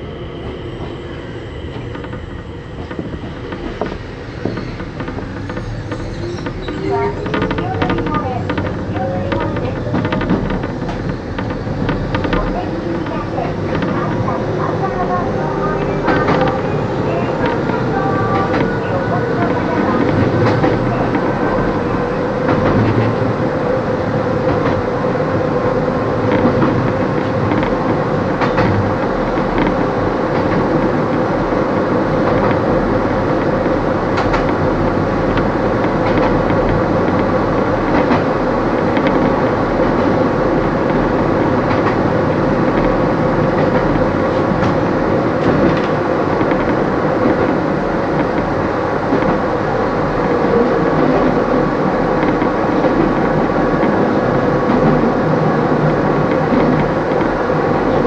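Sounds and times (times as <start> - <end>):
electric train running hum: 0.0 - 58.0
wheels clicking over rails: 1.7 - 58.0.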